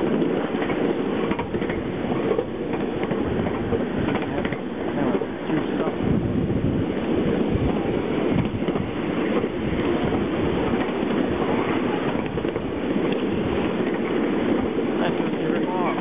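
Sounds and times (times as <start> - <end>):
train running: 0.0 - 16.0.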